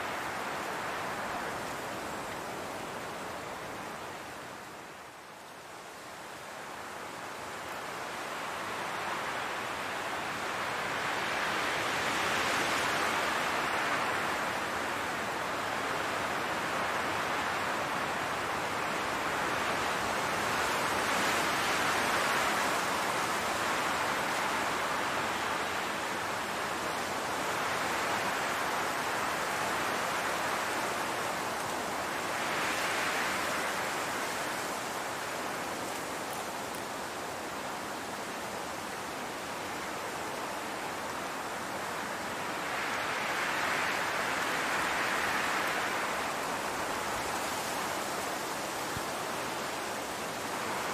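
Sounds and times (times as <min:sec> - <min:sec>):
wind blowing through grass: 0:00.0 - 0:50.9.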